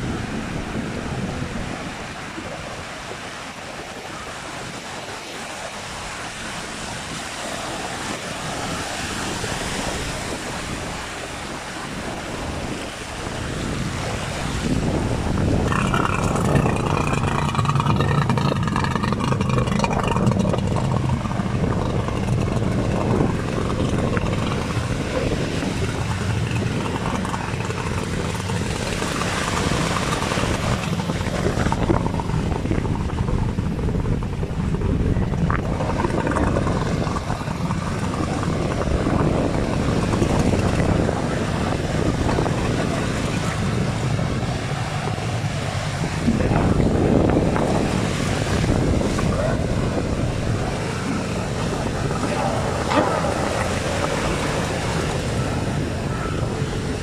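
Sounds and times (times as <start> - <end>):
outboard engines running: 0.0 - 57.0
sea noise: 0.0 - 57.0
wind: 0.0 - 57.0.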